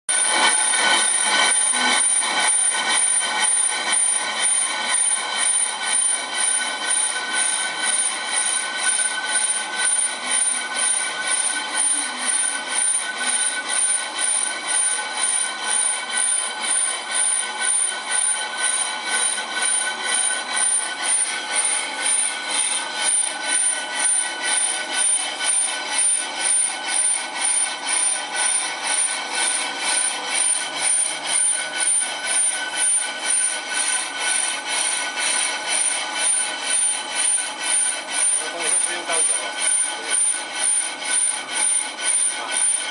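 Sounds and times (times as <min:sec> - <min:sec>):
brake lathe metallic scraping: 0:00.1 - 0:42.9.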